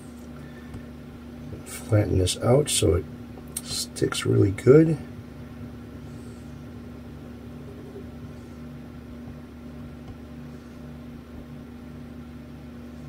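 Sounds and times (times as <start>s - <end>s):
low pulsing machine hum: 0.0s - 13.0s.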